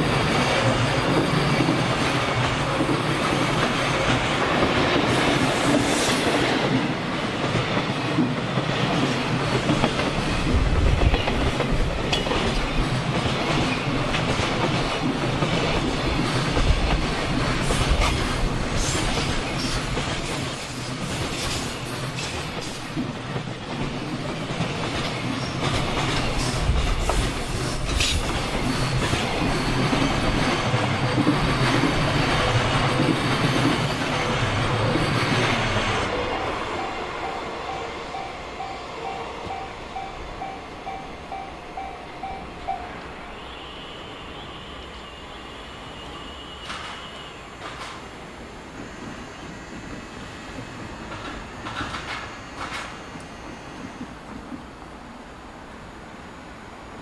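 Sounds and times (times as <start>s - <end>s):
train wheels clacking: 0.0s - 43.1s, 46.5s - 54.7s
freight train rumbling past: 0.0s - 57.0s.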